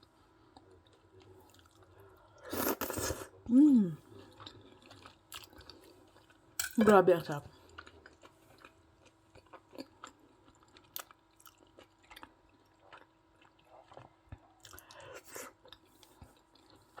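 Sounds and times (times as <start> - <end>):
faint close chewing: 0.0 - 3.3, 4.0 - 6.6, 7.4 - 17.0.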